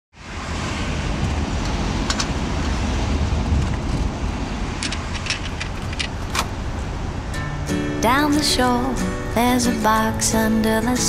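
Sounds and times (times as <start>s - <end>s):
engine and road rumble: 0.1s - 11.0s
wind hiss: 0.2s - 11.0s.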